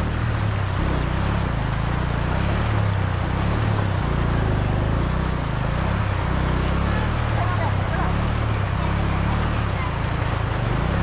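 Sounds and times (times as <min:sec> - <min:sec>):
motorcycle engine running: 0:00.0 - 0:11.0
rushing water: 0:00.0 - 0:11.0.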